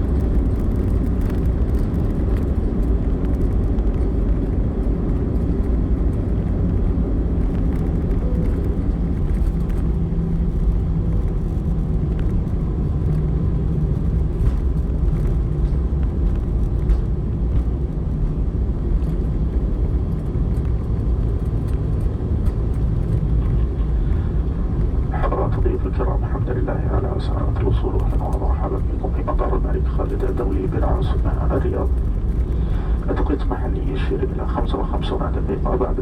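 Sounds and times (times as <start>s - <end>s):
airliner engines rumbling: 0.0s - 36.0s
undercarriage rolling on runway: 0.0s - 36.0s.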